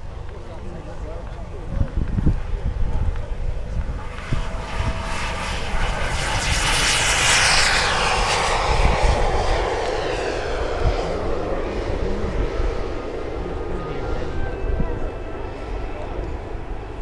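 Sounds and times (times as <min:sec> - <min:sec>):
model aircraft engine flying past: 0:02.2 - 0:17.0.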